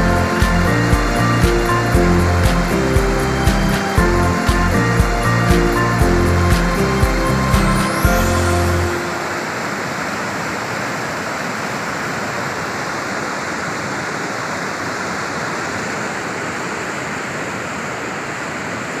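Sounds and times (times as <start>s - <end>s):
river rushing over rocks and weir: 0.0s - 19.0s.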